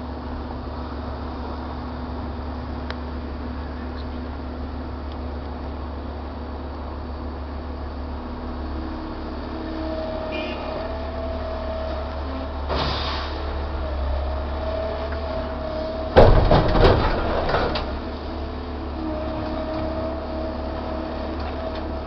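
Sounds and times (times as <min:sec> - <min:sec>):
excavator engine and hydraulics humming: 0:00.0 - 0:22.0.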